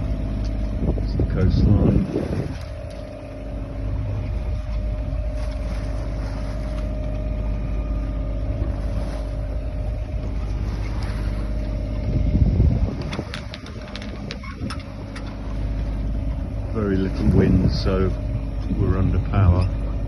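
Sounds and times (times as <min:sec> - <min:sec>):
boat engine droning: 0:00.0 - 0:20.0
low rumble: 0:00.0 - 0:20.0.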